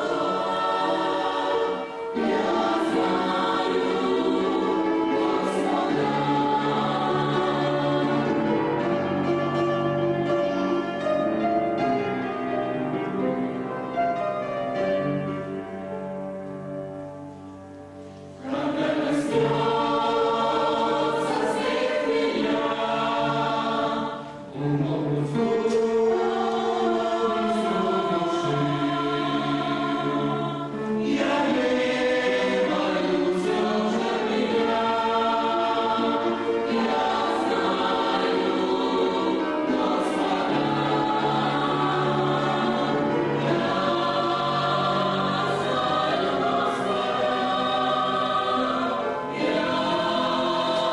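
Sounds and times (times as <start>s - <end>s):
group singing a hymn in harmony: 0.0s - 12.4s, 18.2s - 50.9s.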